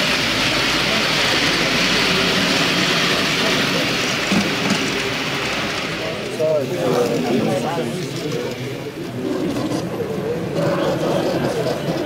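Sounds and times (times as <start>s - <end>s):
faint murmuring voices: 0.0s - 12.0s
model train running on track: 0.0s - 12.0s.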